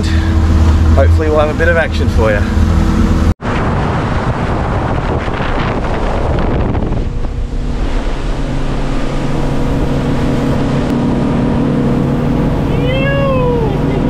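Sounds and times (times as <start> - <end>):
outboard motor humming: 0.0 - 14.0
water rushing: 0.0 - 14.0
wind buffeting microphone: 0.0 - 14.0.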